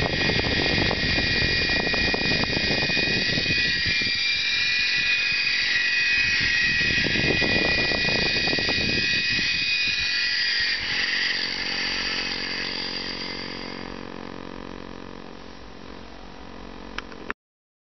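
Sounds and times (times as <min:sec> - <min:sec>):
model helicopter motors whining: 0:00.0 - 0:17.3.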